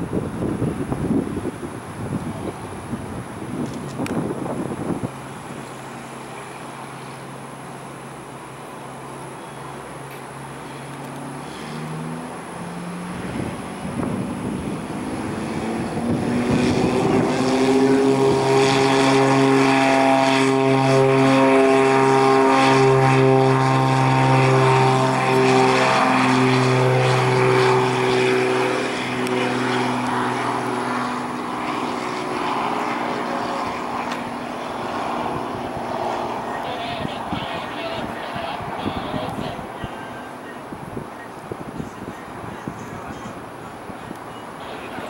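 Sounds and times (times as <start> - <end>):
propeller plane engines droning: 0.0 - 45.0.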